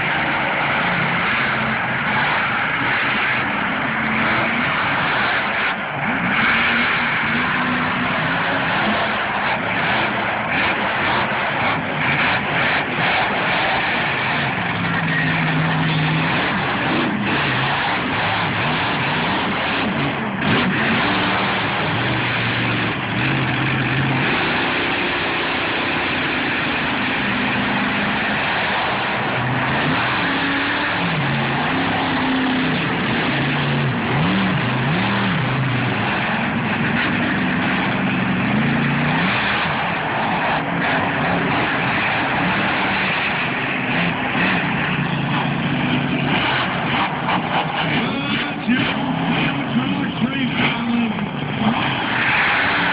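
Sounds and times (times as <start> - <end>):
monster truck engines revving: 0.0 - 52.9.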